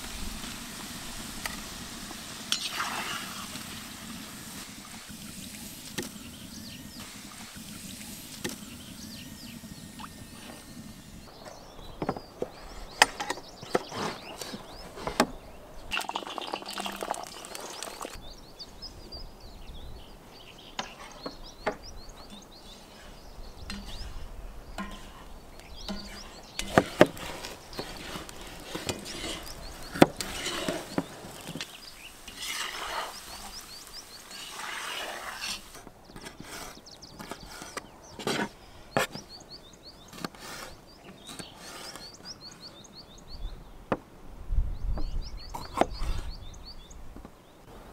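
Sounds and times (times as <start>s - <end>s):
birds chirping: 0.0s - 47.8s.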